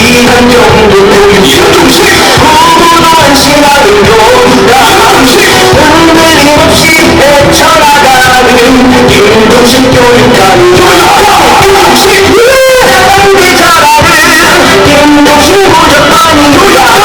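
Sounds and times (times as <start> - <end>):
person singing over a beat: 0.0 - 17.0.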